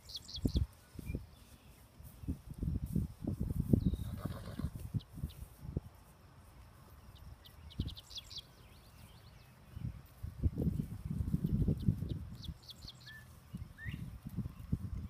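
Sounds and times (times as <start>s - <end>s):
small bird chirping: 0.0s - 2.8s, 3.6s - 5.5s, 6.4s - 15.0s
wind rumbling on microphone: 0.0s - 15.0s.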